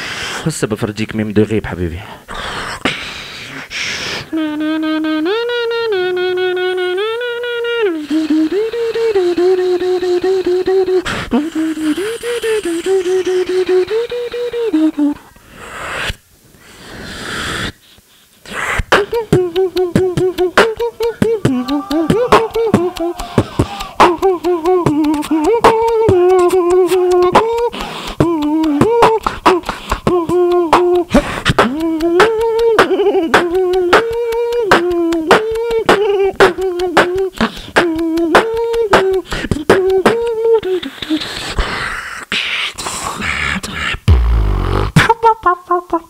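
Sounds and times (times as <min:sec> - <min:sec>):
beatboxing into a microphone: 0:00.0 - 0:46.0.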